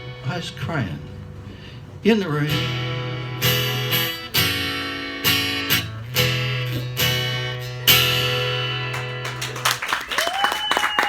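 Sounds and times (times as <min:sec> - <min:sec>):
acoustic guitar strummed chords: 0:00.0 - 0:09.2.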